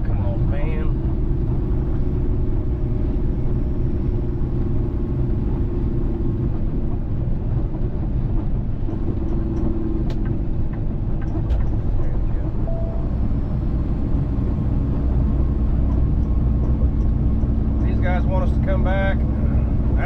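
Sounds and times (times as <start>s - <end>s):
road noise: 0.0s - 20.0s
truck diesel engine drone: 0.0s - 20.0s.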